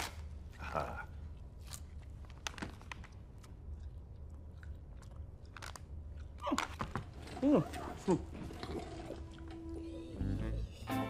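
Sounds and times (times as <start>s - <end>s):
low room hum: 0.0s - 11.0s
man chewing jerky: 0.6s - 9.6s.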